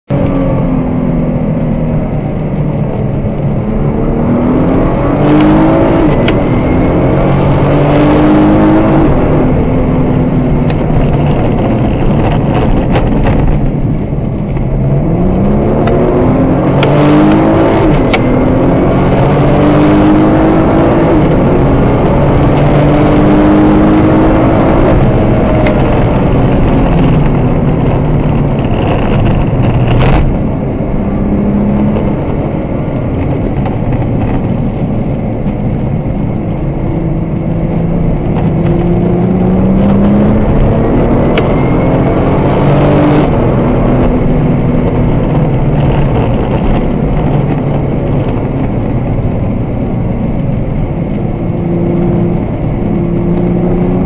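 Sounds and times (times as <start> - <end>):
car engine accelerating: 0.1 - 54.0.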